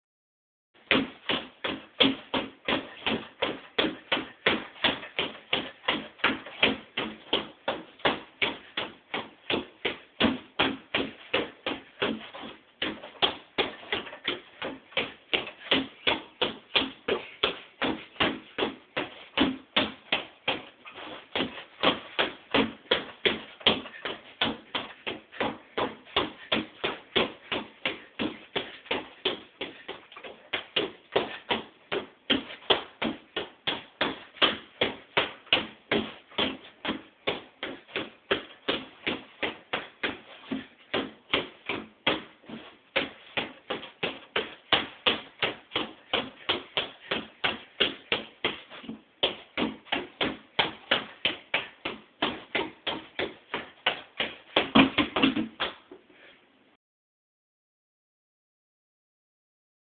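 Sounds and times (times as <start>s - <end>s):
reflex bag being punched: 0.8s - 55.7s.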